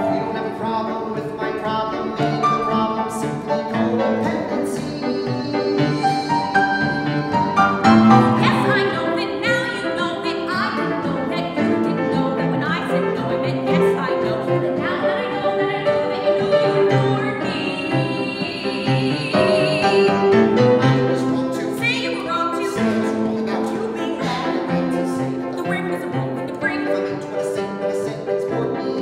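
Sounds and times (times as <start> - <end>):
piano accompaniment: 0.0 - 29.0
woman and man singing: 0.0 - 29.0.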